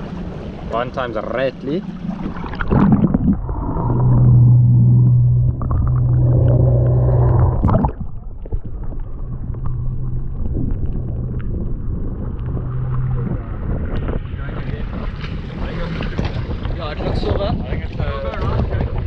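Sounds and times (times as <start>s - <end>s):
boat motor humming: 0.0s - 19.0s
muffled underwater rumble: 0.0s - 19.0s
water gurgling: 0.0s - 19.0s.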